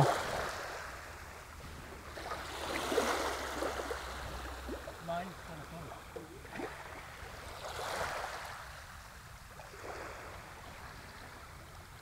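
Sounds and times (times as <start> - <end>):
small waves lapping on sand: 0.0 - 12.0.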